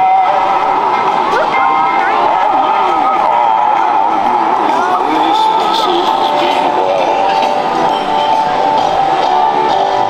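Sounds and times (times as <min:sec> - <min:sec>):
crowd talking and calling: 0:00.0 - 0:10.0.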